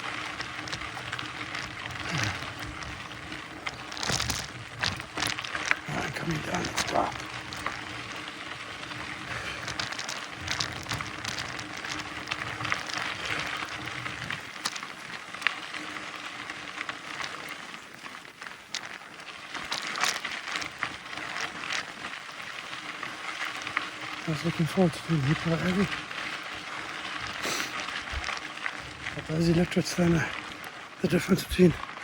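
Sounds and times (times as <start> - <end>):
small clicks and rattles: 0.0 - 31.0
bike tyres crunching over gravel: 0.0 - 32.0.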